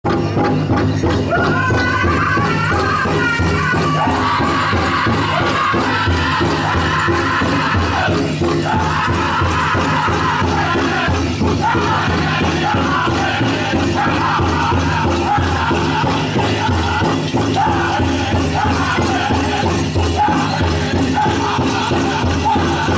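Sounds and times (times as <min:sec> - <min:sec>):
large drum steady beat: 0:00.0 - 0:22.9
men singing high-pitched: 0:01.1 - 0:22.9.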